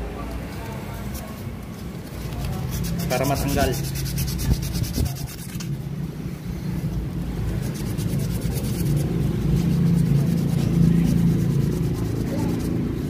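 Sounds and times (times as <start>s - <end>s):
road traffic rumble: 0.0s - 13.0s
sandpaper rubbing on metal: 1.0s - 5.8s, 7.4s - 13.0s.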